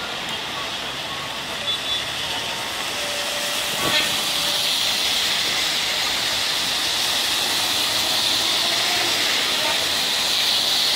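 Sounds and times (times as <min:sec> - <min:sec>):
heavy rain hissing: 0:00.0 - 0:10.9
tyres swishing on wet street: 0:00.0 - 0:10.9.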